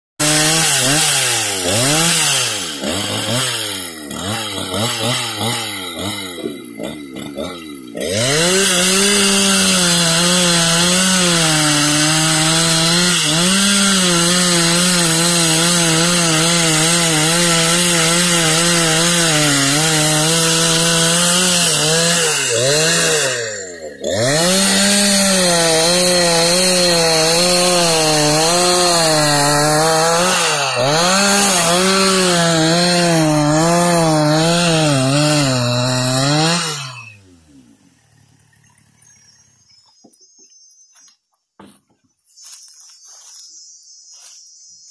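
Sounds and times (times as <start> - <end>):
chainsaw cutting wood: 0.2 - 44.4.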